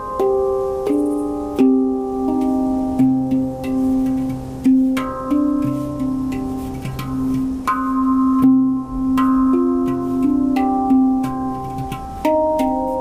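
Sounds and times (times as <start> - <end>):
handpan melody: 0.0 - 13.0.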